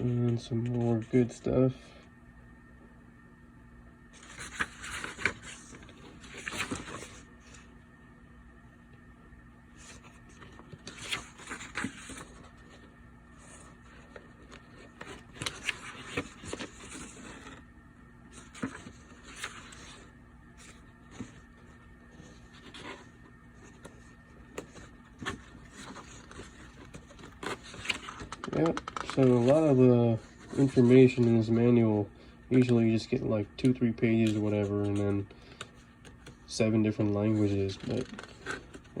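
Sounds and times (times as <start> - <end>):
faint steady hum: 0.0 - 39.0
paper pages rustling: 4.2 - 7.7, 9.7 - 17.7, 18.3 - 31.9, 32.5 - 39.0.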